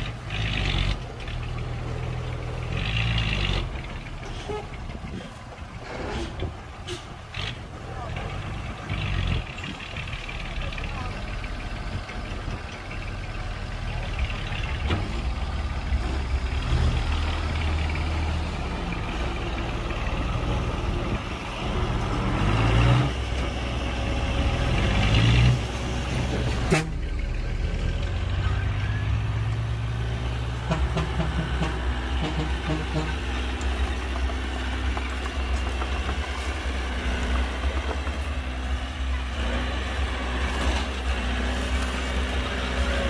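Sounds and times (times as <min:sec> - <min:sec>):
heavy diesel engine revving: 0:00.0 - 0:43.0.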